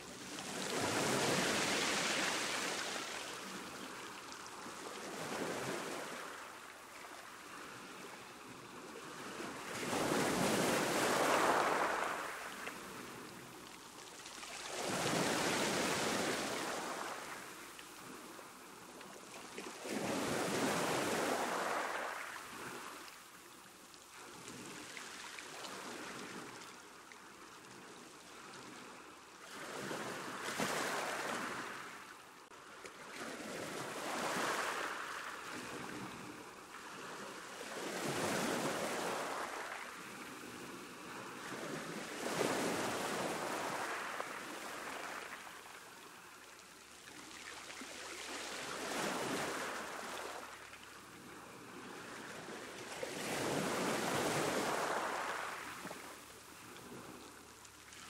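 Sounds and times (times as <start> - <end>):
sea waves breaking on beach: 0.0 - 23.4, 24.1 - 58.0.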